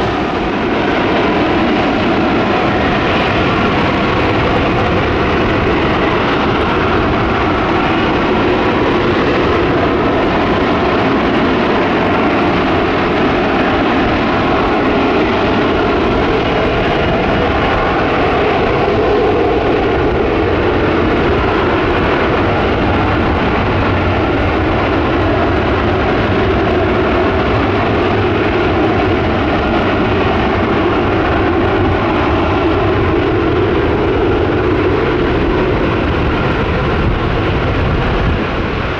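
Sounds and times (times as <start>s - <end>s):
jet engine roaring: 0.0s - 38.9s.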